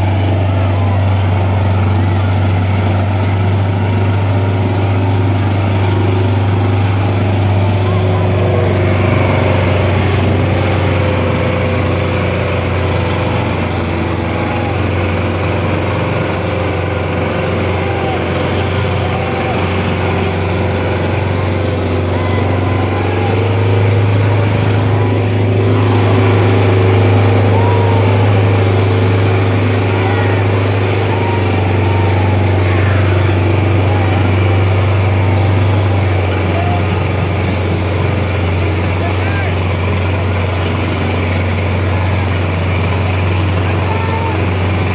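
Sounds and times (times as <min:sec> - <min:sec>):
tractor diesel engine labouring: 0:00.0 - 0:44.9.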